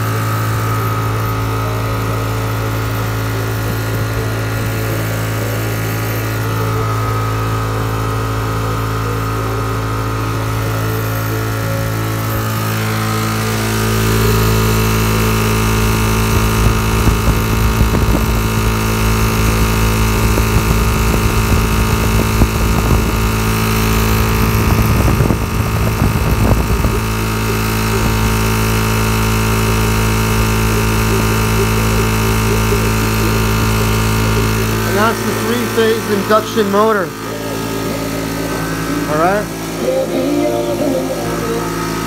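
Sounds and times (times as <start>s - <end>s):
electric motor humming: 0.0s - 42.0s.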